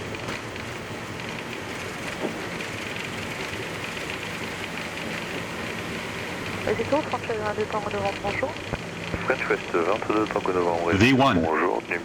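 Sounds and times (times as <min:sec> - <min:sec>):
jet engines roaring: 0:00.0 - 0:12.0
wheels rumbling on runway: 0:00.0 - 0:12.0.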